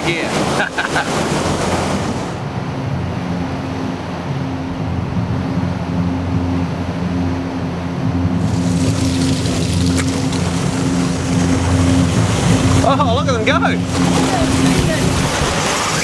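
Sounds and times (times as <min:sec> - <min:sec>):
boat engine humming: 0:00.0 - 0:16.0
water rushing along hull: 0:00.0 - 0:16.0.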